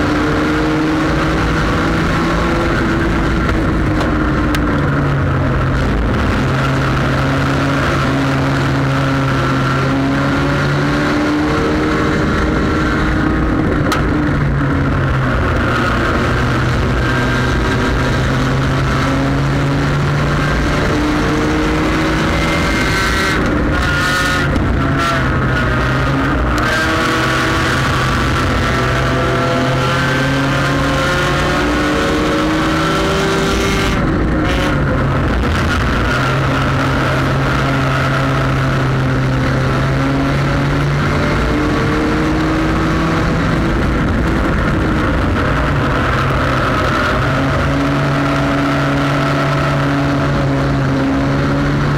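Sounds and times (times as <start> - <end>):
race car engine revving: 0.0 - 51.9
wind and road noise: 0.0 - 51.9.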